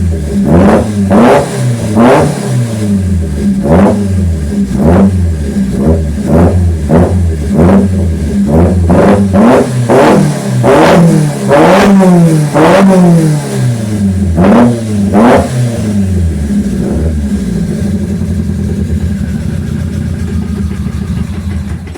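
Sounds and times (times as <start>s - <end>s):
car engine revving and idling: 0.0s - 21.9s.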